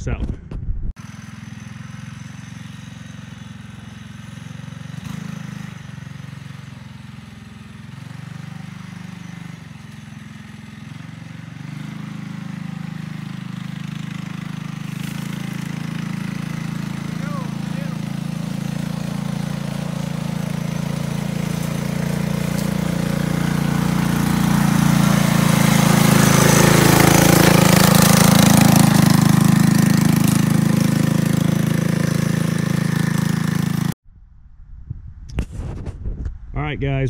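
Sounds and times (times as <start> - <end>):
minibike engine running: 1.0 - 34.0.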